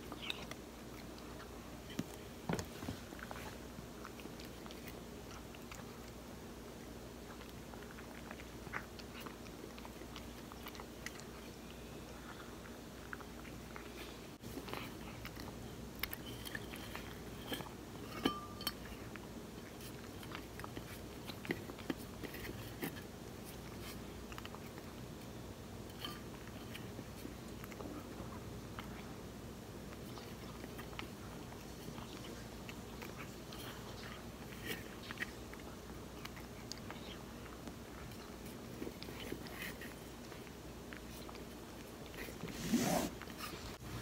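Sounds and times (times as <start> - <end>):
cat chewing wet food: 0.0 - 44.0.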